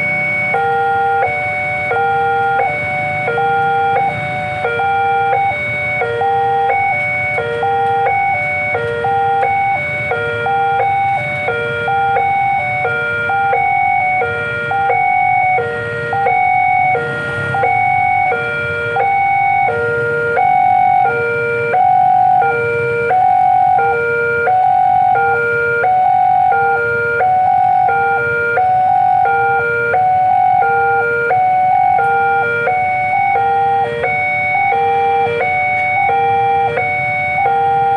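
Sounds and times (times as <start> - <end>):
level crossing warning alarm: 0.0 - 37.9
low traffic rumble: 0.0 - 37.9.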